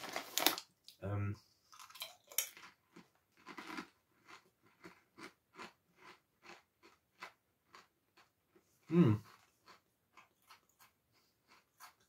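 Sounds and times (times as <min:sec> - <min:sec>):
mouth chewing potato chips: 0:01.7 - 0:12.0.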